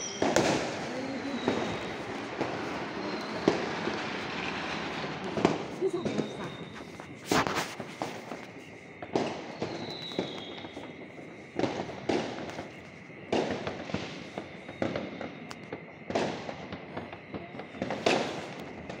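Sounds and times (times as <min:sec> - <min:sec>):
fireworks booming with echo: 0:00.0 - 0:19.0
fireworks crackling: 0:00.0 - 0:19.0.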